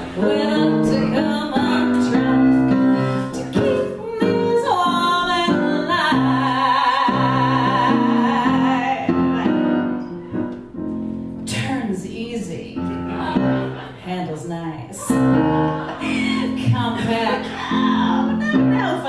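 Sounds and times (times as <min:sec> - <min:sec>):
woman singing into microphone: 0:00.0 - 0:10.0, 0:11.5 - 0:19.0
piano chords: 0:00.0 - 0:19.0.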